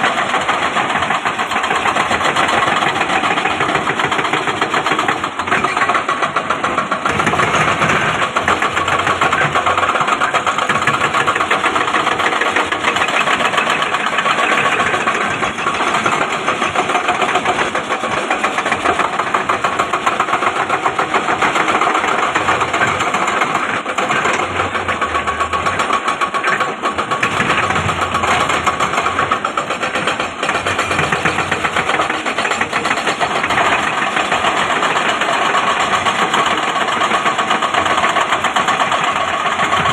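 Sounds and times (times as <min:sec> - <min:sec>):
diesel engine rough clatter: 0:00.0 - 0:39.9.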